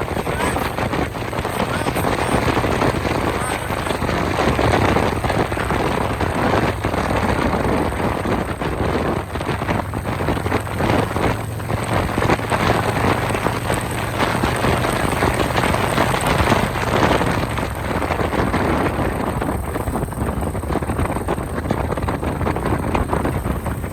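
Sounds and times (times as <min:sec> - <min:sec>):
motorcycle engine running: 0:00.0 - 0:23.9
wind rushing over microphone: 0:00.0 - 0:23.9.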